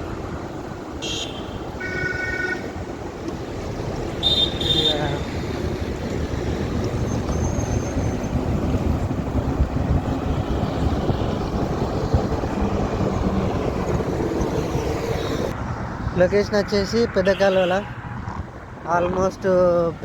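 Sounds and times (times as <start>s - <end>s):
wind rushing over microphone: 0.0s - 17.3s, 17.9s - 20.0s.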